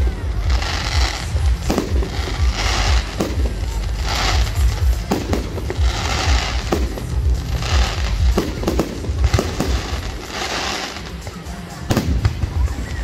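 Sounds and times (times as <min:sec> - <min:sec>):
crackling firework stars: 0:00.0 - 0:13.0
firework bursts and bangs: 0:00.0 - 0:13.0.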